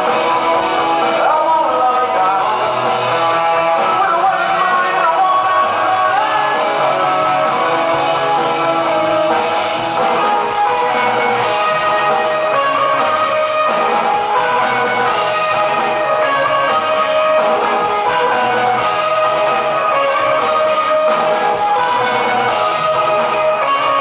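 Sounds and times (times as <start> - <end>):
drums: 0.0 - 24.0
electric guitars: 0.0 - 24.0
lead singer singing: 0.0 - 24.0.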